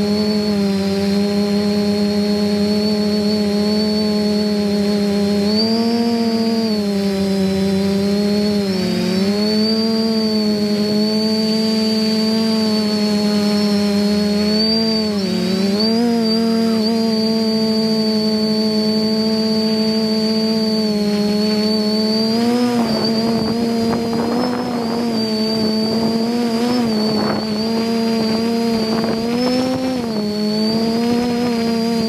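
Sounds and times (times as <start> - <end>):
quadcopter motors droning: 0.0 - 32.0
thin high whine: 0.0 - 32.0.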